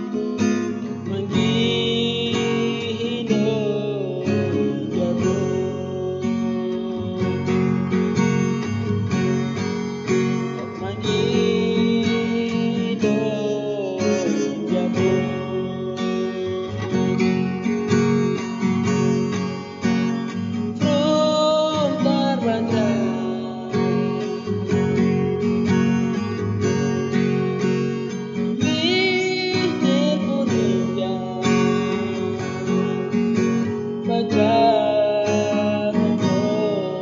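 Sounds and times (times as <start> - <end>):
song with strummed acoustic guitar: 0.0 - 37.0.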